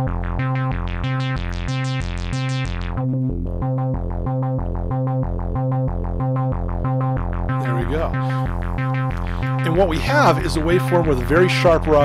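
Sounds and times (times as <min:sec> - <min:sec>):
synthesizer bass line with filter sweep: 0:00.0 - 0:12.0.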